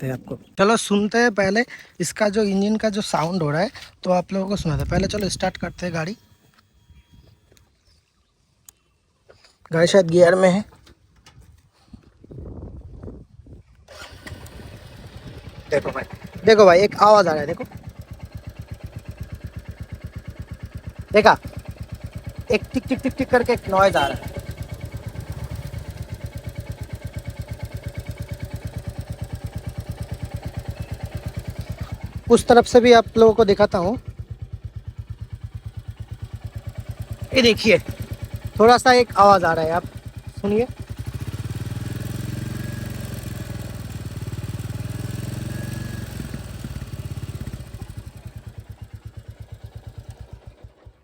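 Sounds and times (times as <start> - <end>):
engine ticking: 0.0 - 7.7, 13.9 - 51.0
motorcycle engine idling: 0.0 - 8.3, 13.9 - 51.0.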